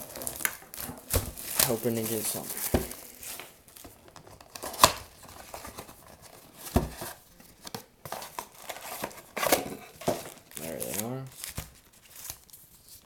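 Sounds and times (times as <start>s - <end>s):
cardboard and packs torn open: 0.0s - 7.2s, 8.2s - 13.0s.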